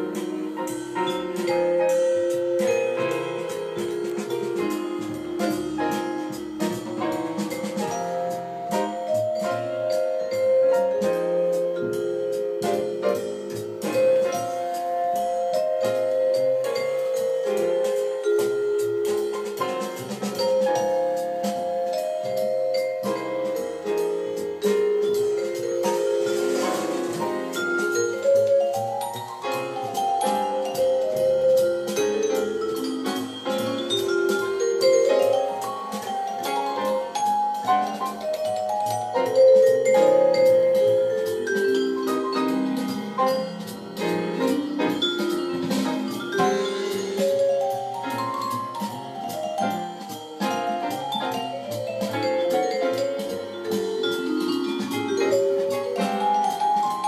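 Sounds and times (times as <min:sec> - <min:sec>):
held keyboard notes: 0:00.0 - 0:57.0
lower accompaniment: 0:00.0 - 0:57.0
steady percussive beat: 0:00.0 - 0:57.0
struck ringing melody: 0:00.0 - 0:57.0.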